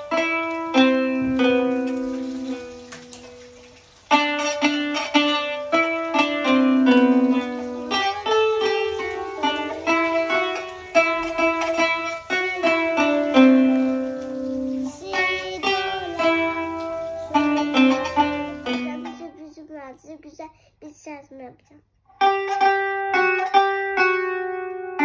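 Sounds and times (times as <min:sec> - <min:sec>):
plucked zither melody: 0:00.0 - 0:19.9, 0:22.1 - 0:25.0.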